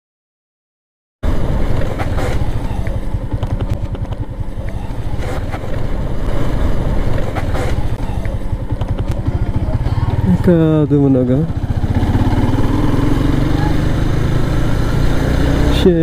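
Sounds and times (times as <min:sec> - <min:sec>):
motorcycle engine running: 0:01.2 - 0:16.0.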